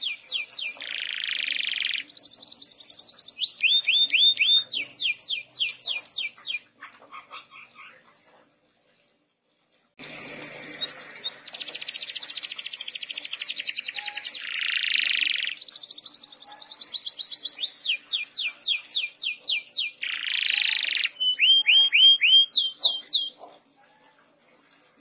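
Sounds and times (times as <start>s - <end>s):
canary singing: 0.0s - 7.9s, 10.6s - 24.0s.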